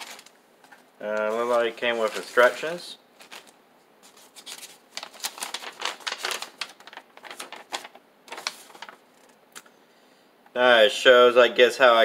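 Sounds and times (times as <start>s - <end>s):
paper rustling and crackling: 0.0s - 9.7s.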